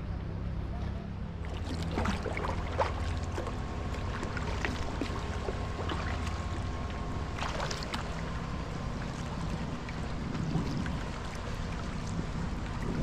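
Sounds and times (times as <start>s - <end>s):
water trickling along hull: 1.2s - 13.0s
paddle strokes splashing: 1.4s - 13.0s.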